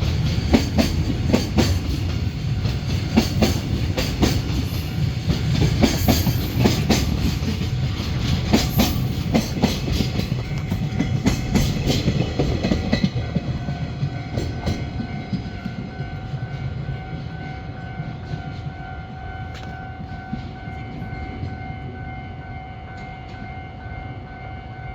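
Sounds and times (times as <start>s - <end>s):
freight train passing: 0.0s - 24.9s.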